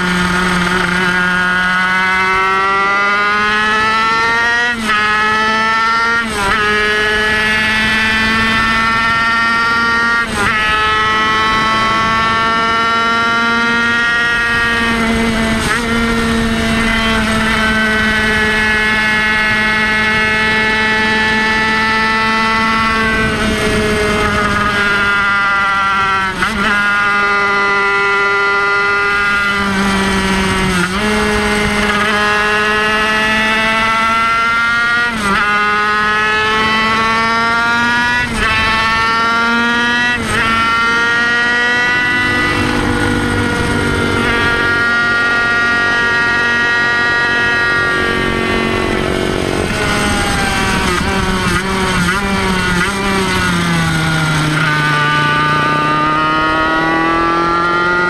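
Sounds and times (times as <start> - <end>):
motorcycle engine high revs: 0.0 - 58.0.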